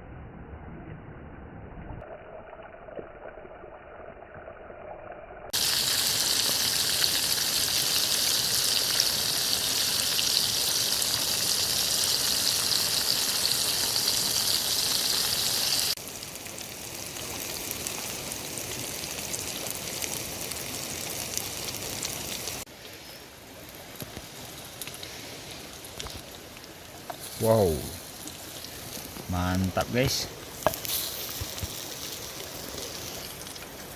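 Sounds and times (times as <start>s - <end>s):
food sizzling in hot oil: 4.6s - 33.9s.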